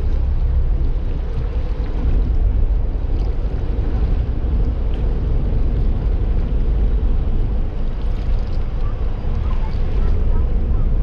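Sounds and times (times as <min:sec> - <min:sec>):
ship engine deep rumble: 0:00.0 - 0:11.0.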